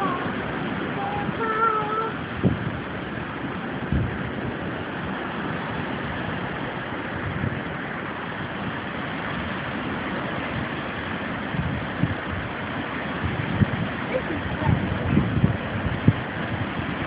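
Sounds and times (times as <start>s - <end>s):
hurricane wind gusts: 0.0s - 17.0s
low rumbles: 0.0s - 17.0s.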